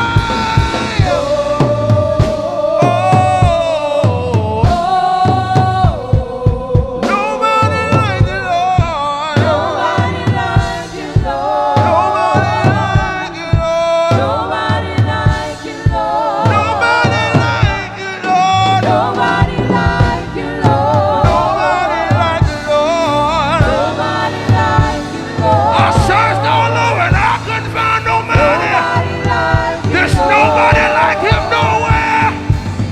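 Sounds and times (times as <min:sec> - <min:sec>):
band with bass and drums: 0:00.0 - 0:32.9
voices singing gospel: 0:00.0 - 0:32.9.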